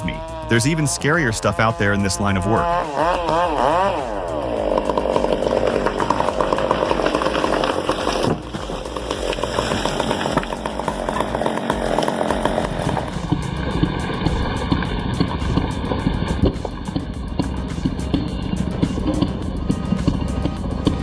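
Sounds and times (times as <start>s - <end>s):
chainsaw engine running hard: 0.0s - 21.0s.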